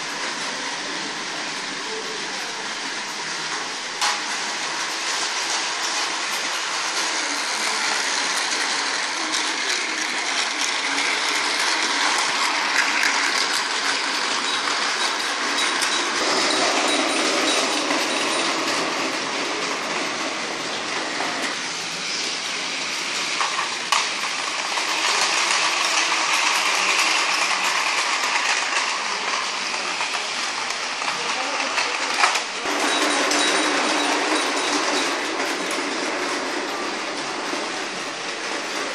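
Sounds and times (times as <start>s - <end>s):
toy train whirring rattle: 0.0s - 38.9s.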